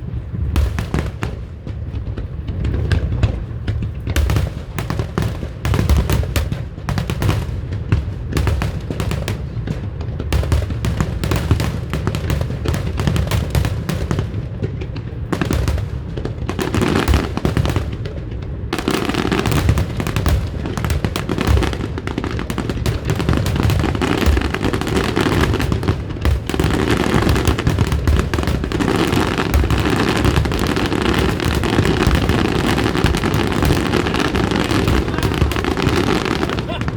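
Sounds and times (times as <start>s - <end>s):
fireworks booming and crackling: 0.0s - 36.9s.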